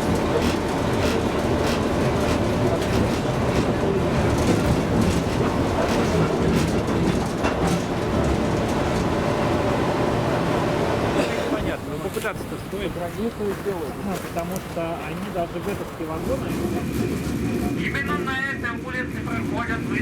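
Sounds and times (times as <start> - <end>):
wheels clicking over rail joints: 0.0 - 17.8
tram rumbling on rails: 0.0 - 20.0.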